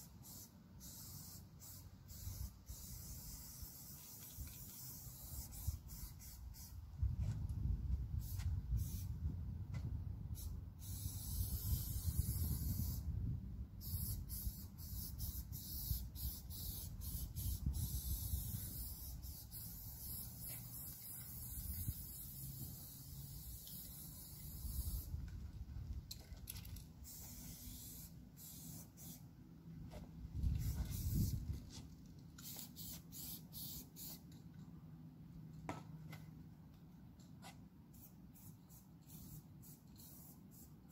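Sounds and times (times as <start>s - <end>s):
spray paint can hissing: 0.0s - 6.8s, 8.2s - 9.2s, 10.3s - 13.1s, 13.8s - 25.2s, 26.1s - 29.3s, 29.9s - 34.5s, 37.4s - 40.9s.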